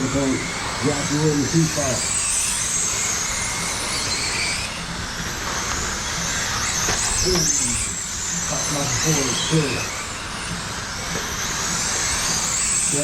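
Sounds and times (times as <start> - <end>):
high motor whine: 0.0 - 13.0
tyres rushing on dirt track: 0.0 - 13.0.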